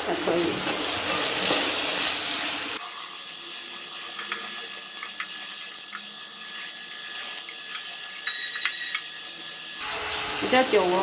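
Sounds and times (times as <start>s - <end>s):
tofu sizzling in oil: 0.0s - 11.0s.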